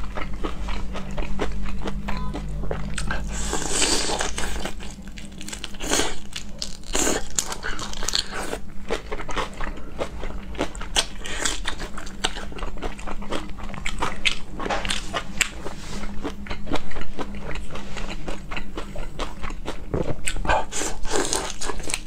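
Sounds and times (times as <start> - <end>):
wet chewing and biting: 0.0 - 22.0.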